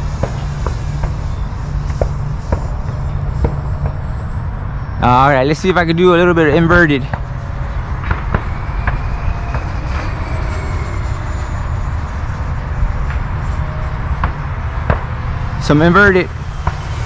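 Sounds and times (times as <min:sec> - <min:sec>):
distant rc jet whine: 0:00.0 - 0:17.0
low rumble: 0:00.0 - 0:17.0.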